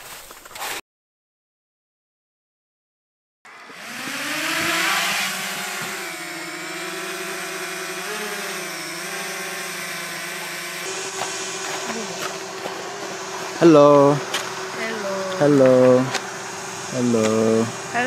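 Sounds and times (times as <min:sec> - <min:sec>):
drone propellers whirring: 0:03.5 - 0:18.0.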